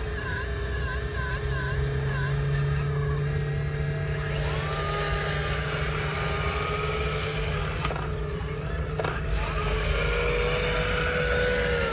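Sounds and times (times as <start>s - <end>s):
hydraulic pump whining: 0.0s - 11.9s
steady low hum: 0.0s - 11.9s.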